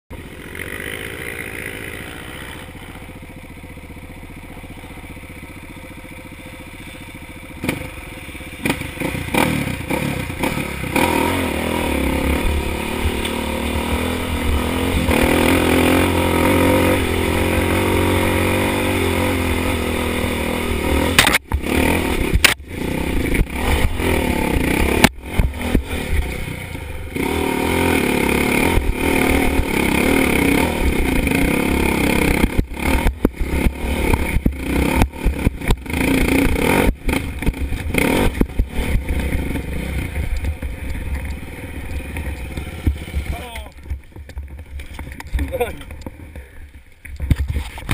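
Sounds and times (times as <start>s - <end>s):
dirt bike engine: 0.1s - 47.9s.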